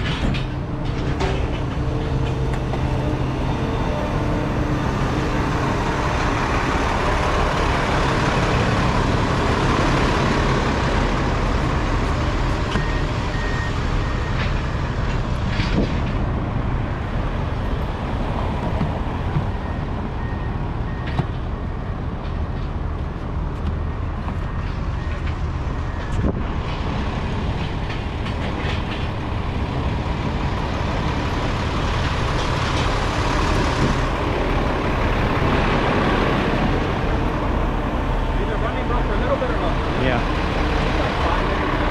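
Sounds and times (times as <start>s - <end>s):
diesel trucks idling: 0.0s - 41.9s.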